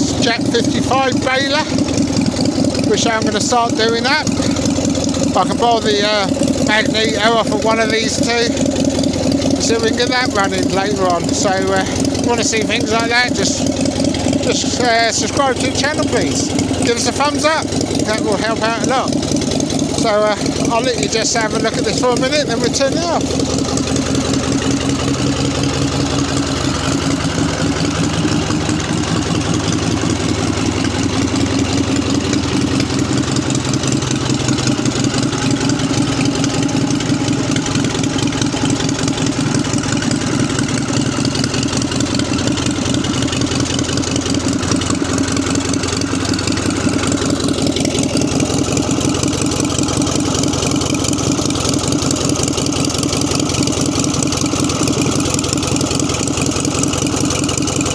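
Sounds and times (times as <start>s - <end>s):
stationary engine idling: 0.0s - 57.9s.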